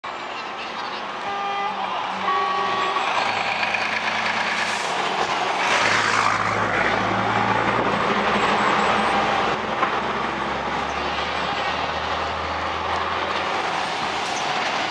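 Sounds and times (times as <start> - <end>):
loud truck engine: 0.0 - 14.9.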